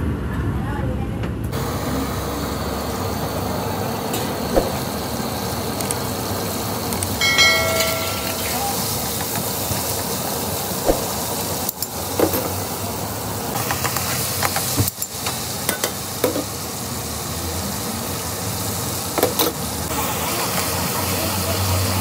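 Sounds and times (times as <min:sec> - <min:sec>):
chicken sizzling in hot oil: 0:01.6 - 0:22.0.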